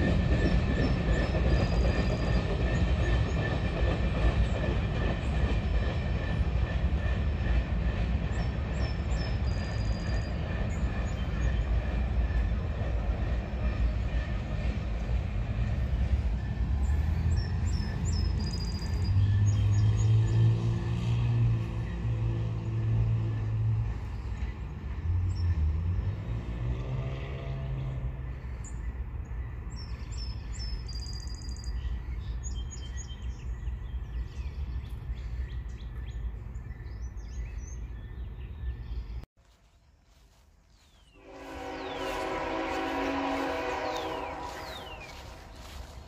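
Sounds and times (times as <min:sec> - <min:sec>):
freight train rumbling past: 0:00.0 - 0:39.2, 0:40.8 - 0:46.0
train engine hum: 0:00.0 - 0:46.0
birds chirping: 0:07.3 - 0:26.2, 0:27.8 - 0:46.0.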